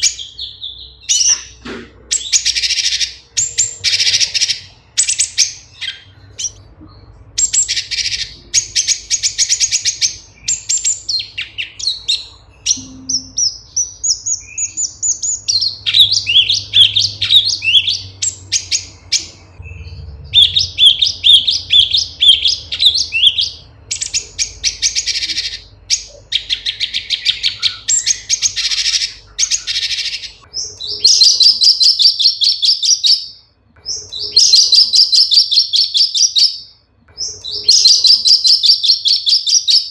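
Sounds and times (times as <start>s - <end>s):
leafbird singing: 0.0s - 39.9s.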